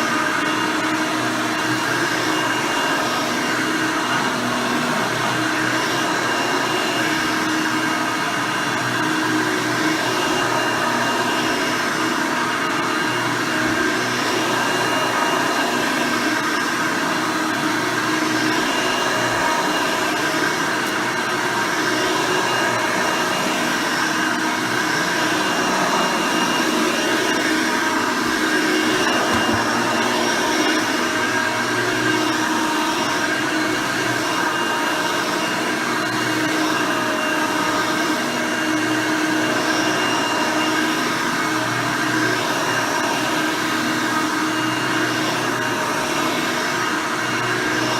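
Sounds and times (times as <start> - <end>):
upright vacuum cleaner running: 0.0 - 47.9.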